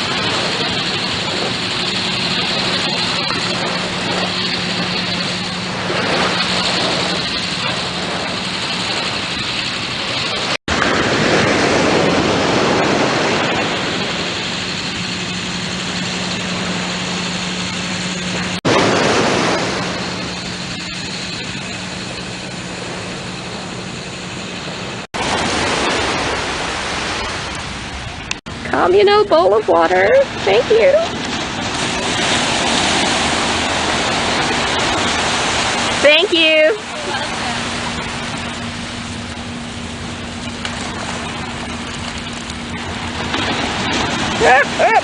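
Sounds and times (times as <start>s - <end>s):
even rushing noise: 0.0s - 45.0s
heavy machinery engine hum: 0.0s - 45.0s.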